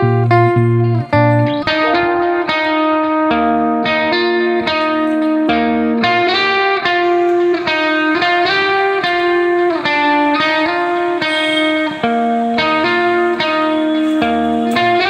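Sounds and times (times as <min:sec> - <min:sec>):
slow instrumental melody: 0:00.0 - 0:15.0.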